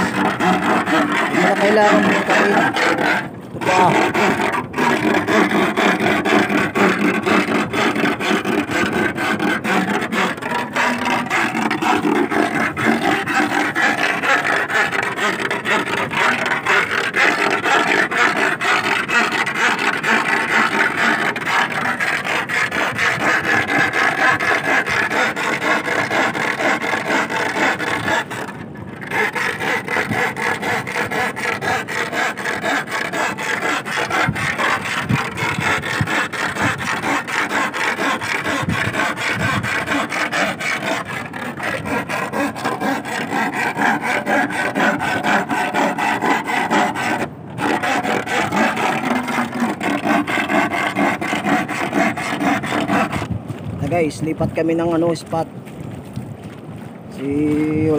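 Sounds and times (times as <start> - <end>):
iron bar scraping wooden stake: 0.0 - 55.4.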